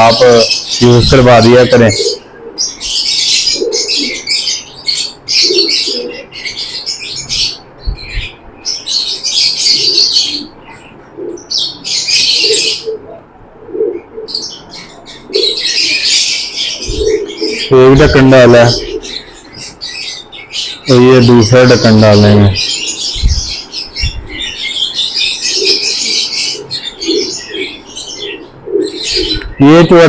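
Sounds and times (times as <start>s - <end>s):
pigeons cooing: 0.0s - 30.0s
small birds chirping: 0.0s - 30.0s.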